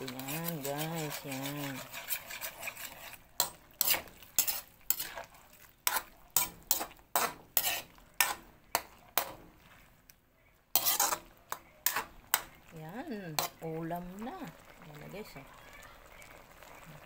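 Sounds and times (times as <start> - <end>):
spatula scraping metal wok: 0.0 - 10.0, 10.7 - 15.4.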